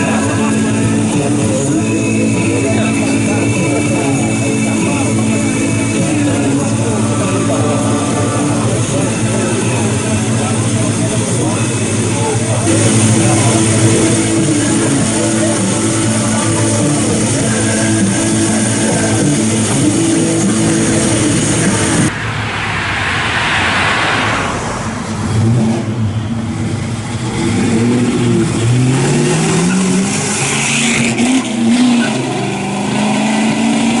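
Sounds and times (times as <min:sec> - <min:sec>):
car engine running and revving: 0:00.0 - 0:22.1, 0:25.3 - 0:34.0.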